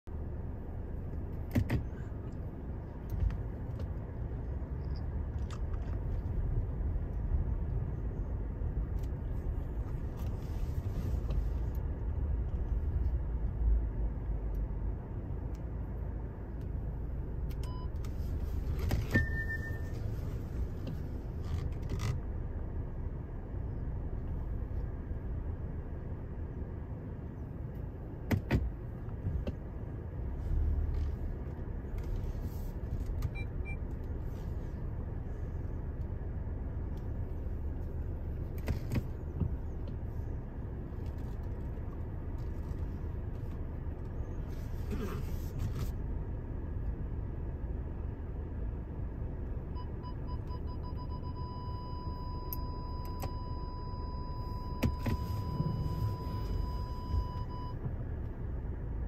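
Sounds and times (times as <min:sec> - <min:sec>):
car engine rumble in cabin: 0:00.0 - 0:59.0.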